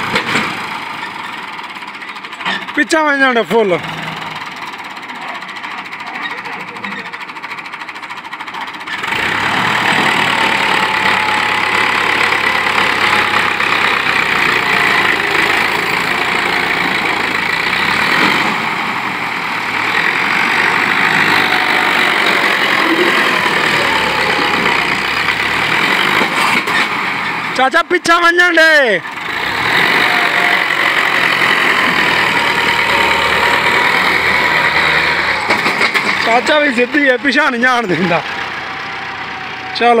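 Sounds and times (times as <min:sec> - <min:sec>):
tractor diesel engine: 0:00.0 - 0:40.0.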